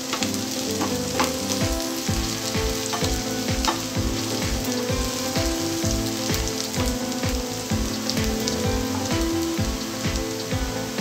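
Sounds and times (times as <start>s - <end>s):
background music with low beat: 0.0s - 11.0s
onions sizzling in oil: 0.0s - 11.0s.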